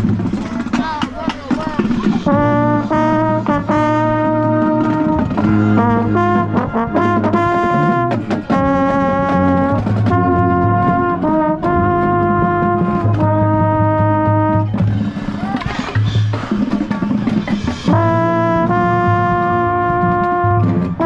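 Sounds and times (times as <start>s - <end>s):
marching band brass chords: 0.0s - 21.0s
trombone: 2.1s - 16.2s, 17.8s - 21.0s.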